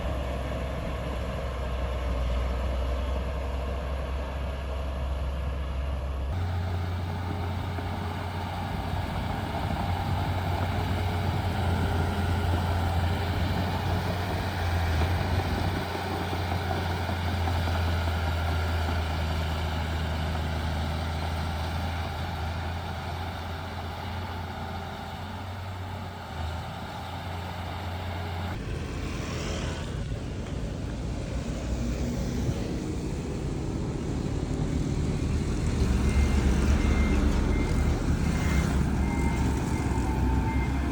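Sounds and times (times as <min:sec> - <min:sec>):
heavy diesel machinery droning: 0:00.0 - 0:40.9.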